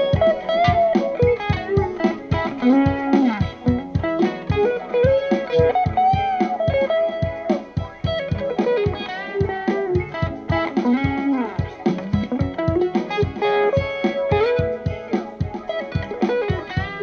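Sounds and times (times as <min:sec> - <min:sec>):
looped electric guitar phrase: 0:00.0 - 0:17.0
steady low beat: 0:00.0 - 0:17.0.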